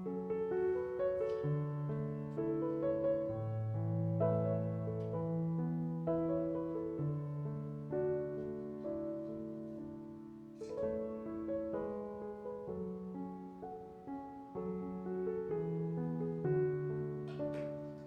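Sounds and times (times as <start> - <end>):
slow solo piano music: 0.0 - 18.0.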